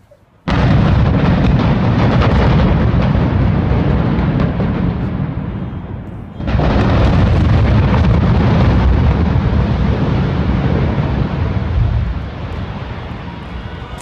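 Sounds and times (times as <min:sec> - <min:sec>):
building collapse rumbling and crackling: 0:00.4 - 0:14.0
explosive boom: 0:00.5 - 0:13.4.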